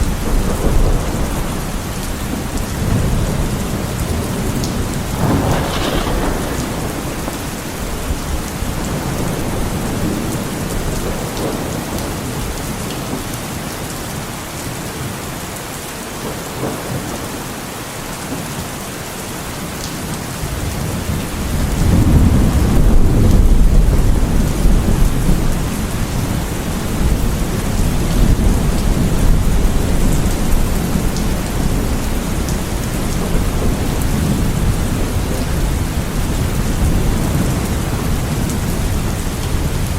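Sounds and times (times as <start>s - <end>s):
thunder rumbling: 0.0s - 13.3s, 20.5s - 39.9s
heavy rain falling: 0.0s - 39.9s.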